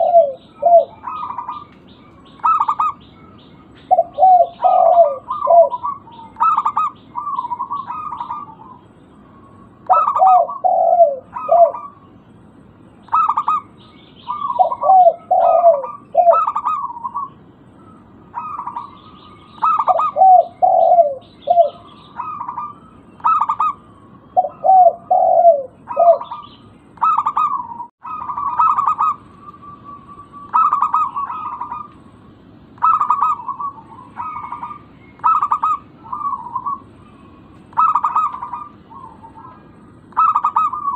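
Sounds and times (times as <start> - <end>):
doves cooing: 0.0 - 12.4, 13.0 - 40.9.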